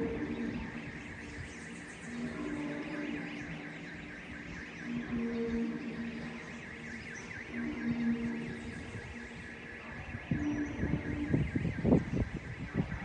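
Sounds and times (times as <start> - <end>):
low horn-like hum in the sky: 0.0 - 13.0.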